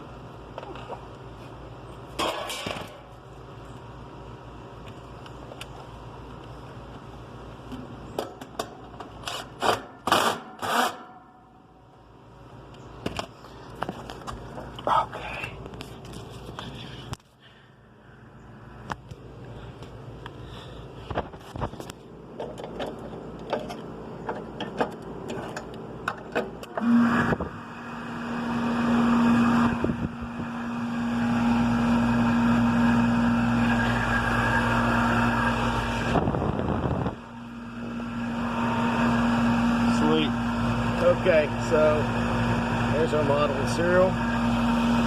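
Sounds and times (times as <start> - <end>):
fan air noise: 0.0 - 45.0
heat pump hum: 0.0 - 45.0.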